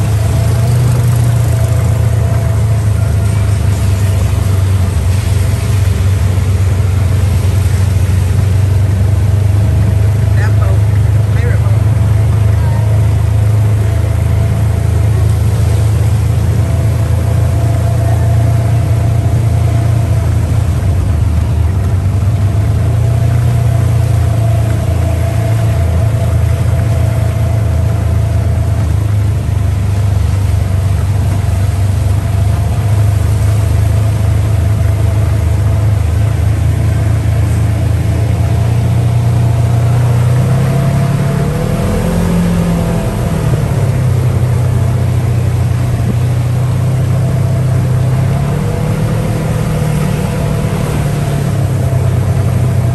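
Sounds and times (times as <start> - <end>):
buggy engine droning: 0.0 - 52.9.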